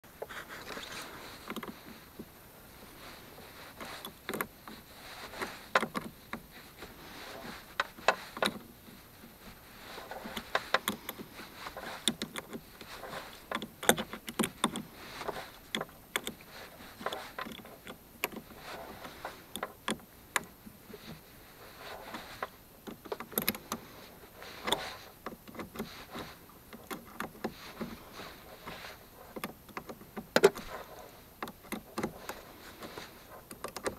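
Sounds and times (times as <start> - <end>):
hands clicking and scraping: 3.0 - 33.9.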